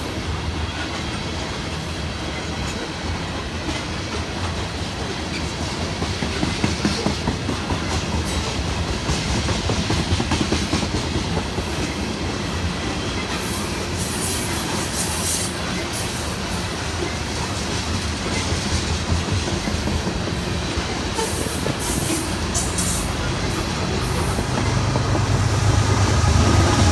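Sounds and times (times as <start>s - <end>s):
train wheels rumbling over rails: 0.0s - 26.9s.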